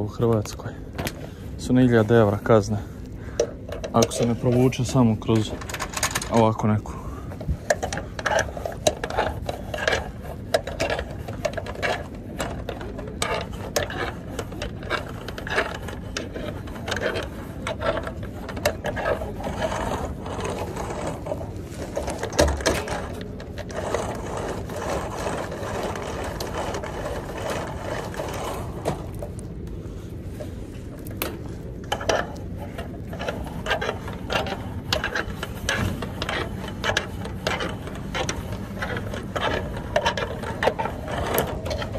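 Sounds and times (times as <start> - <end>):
cable scraping through metal rings: 1.8 - 41.9.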